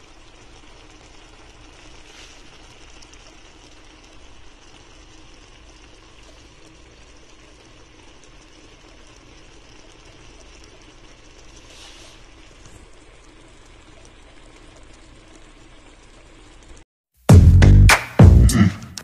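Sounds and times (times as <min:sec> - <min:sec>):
sauce bubbling in frying pan: 0:00.0 - 0:16.8.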